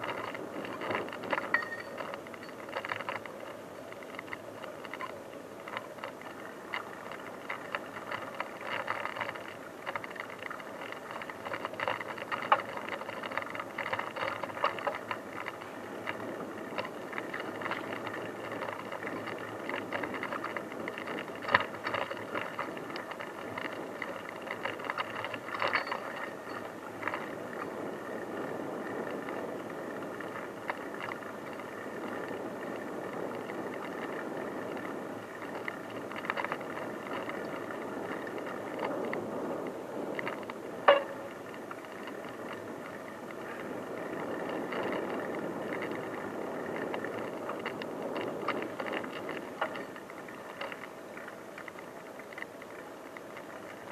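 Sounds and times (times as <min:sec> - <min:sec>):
bike rattling and knocking: 0:00.0 - 0:51.7
bicycle tyres on rough track: 0:00.0 - 0:53.9.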